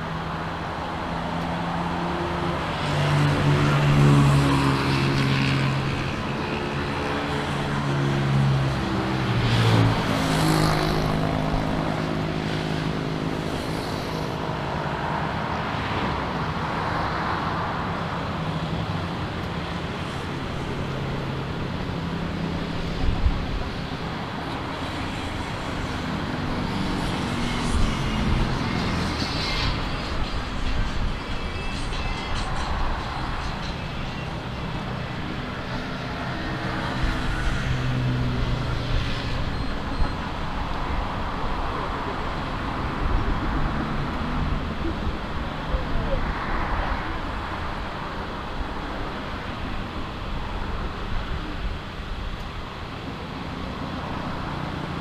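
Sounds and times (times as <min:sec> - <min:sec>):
motor vehicles passing: 0:00.0 - 0:55.0.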